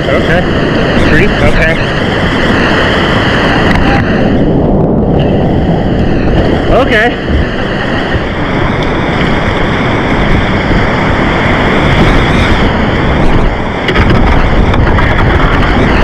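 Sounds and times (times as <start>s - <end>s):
whitewater rushing: 0.0s - 16.0s.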